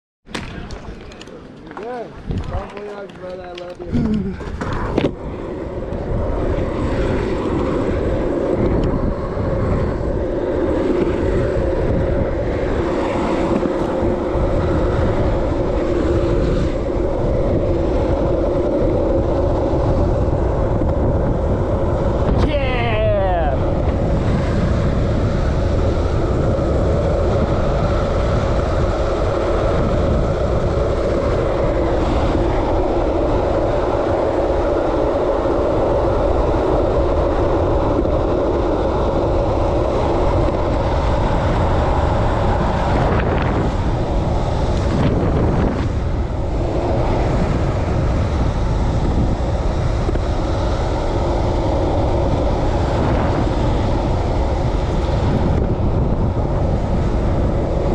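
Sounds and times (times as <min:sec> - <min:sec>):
longboard wheels rolling on asphalt: 0:00.2 - 0:57.9
wind rushing over microphone: 0:00.3 - 0:57.9.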